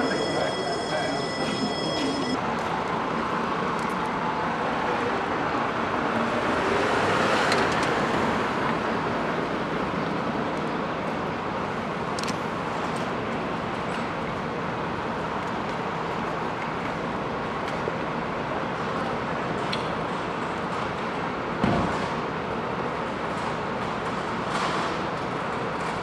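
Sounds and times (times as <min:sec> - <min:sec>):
city road traffic: 0:00.0 - 0:26.0.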